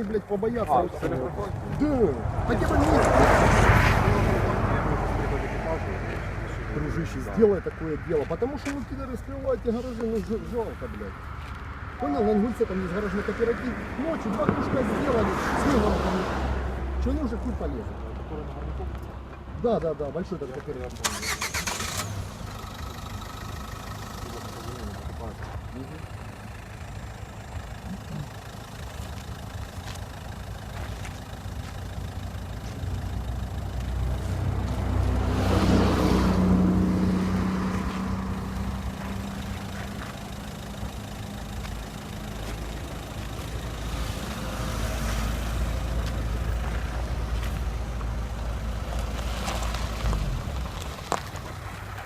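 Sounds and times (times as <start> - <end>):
steady low engine rumble: 0.0 - 52.0
vehicle passing: 0.0 - 52.0.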